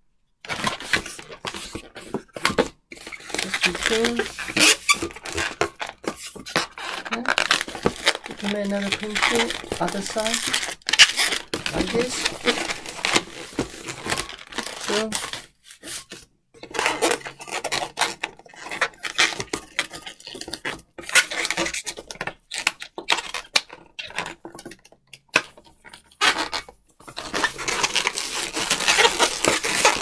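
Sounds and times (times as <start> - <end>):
balloon squeaking and rubbing: 0.5 - 20.4, 21.0 - 22.0, 26.2 - 30.0.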